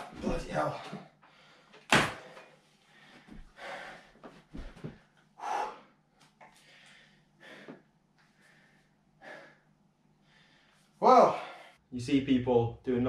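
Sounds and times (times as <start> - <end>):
man breathing hard and gasping: 0.9 - 11.8.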